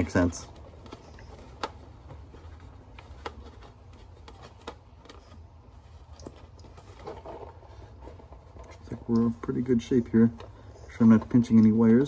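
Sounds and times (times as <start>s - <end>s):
handling plastic toy: 0.0s - 12.0s.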